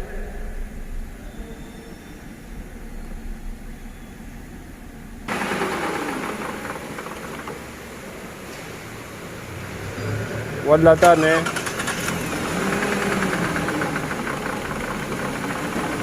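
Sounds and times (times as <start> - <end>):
car engine starting and idling: 0.0 - 16.0.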